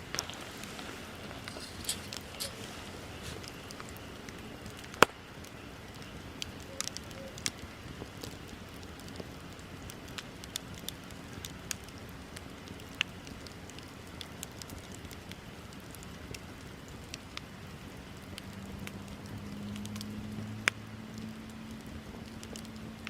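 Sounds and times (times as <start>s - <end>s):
bonfire crackling and popping: 0.0s - 23.0s.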